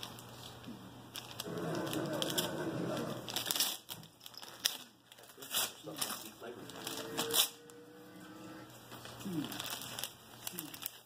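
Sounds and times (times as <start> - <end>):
wrapping paper crinkling: 0.0 - 7.8, 8.7 - 11.0.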